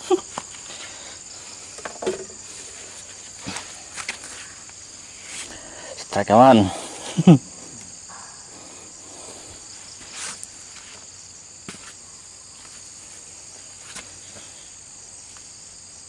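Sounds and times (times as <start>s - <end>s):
insects chirring: 0.0s - 16.0s
rustle: 0.0s - 16.0s.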